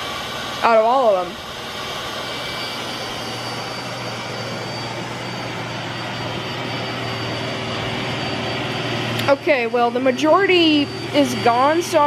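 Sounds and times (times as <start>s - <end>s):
robot vacuum running: 0.0s - 12.0s.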